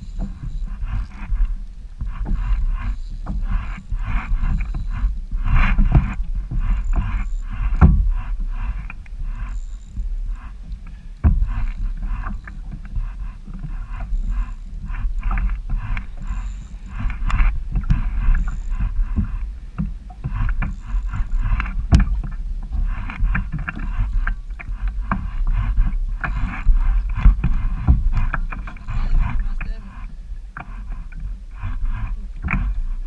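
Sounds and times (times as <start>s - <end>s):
water splashing against kayak hull: 0.0s - 33.0s
wind rumble on microphone: 0.0s - 33.0s.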